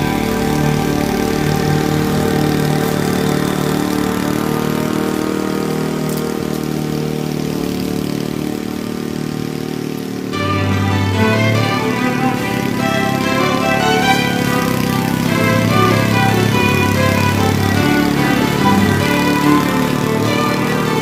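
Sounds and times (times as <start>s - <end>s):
lawn mower engine cutting grass: 0.0s - 21.0s.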